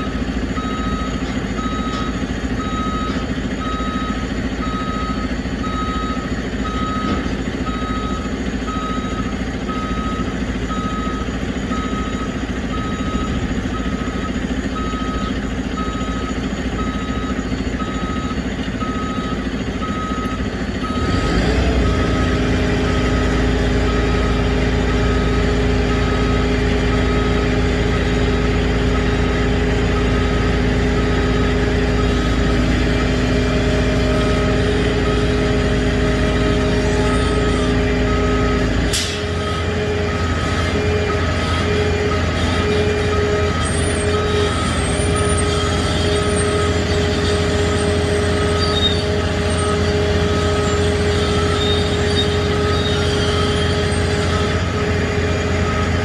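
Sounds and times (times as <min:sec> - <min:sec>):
diesel engine idling: 0:00.0 - 0:56.0
truck backup alarm beeping: 0:00.0 - 0:56.0.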